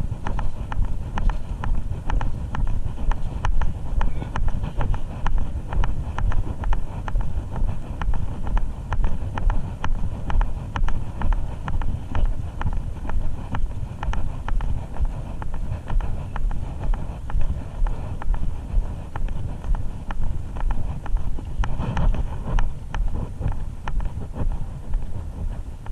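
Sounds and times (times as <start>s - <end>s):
wind rumbling on microphone: 0.0s - 25.9s.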